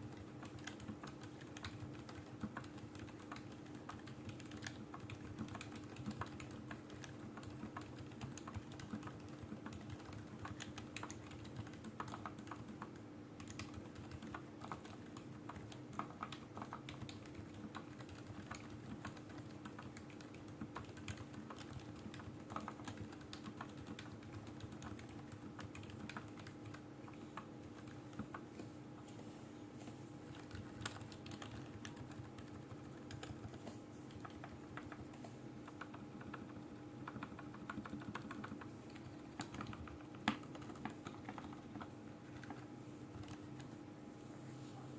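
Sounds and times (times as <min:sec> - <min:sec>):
soft mechanical keyboard typing: 0:00.0 - 0:28.7, 0:30.2 - 0:43.8
faint steady hum: 0:00.0 - 0:44.9.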